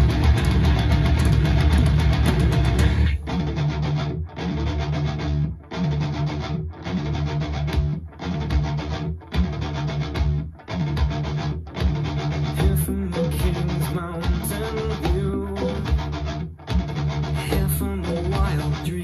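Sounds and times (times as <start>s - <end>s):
heavy rock guitar and bass riff: 0.0s - 19.0s.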